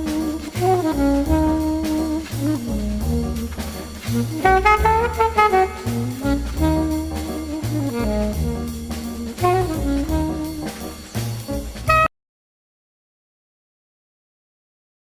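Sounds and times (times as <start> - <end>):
jazzy music with brass melody: 0.0 - 12.1.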